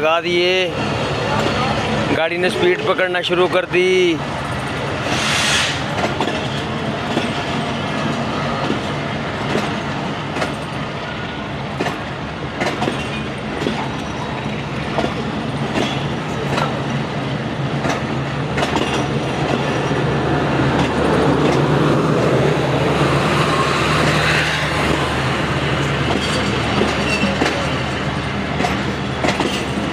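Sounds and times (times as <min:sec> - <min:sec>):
diesel locomotive drone: 0:00.0 - 0:29.9
train wheels clicking over rail joints: 0:02.5 - 0:10.8, 0:11.7 - 0:20.1, 0:20.7 - 0:22.0, 0:23.8 - 0:29.9.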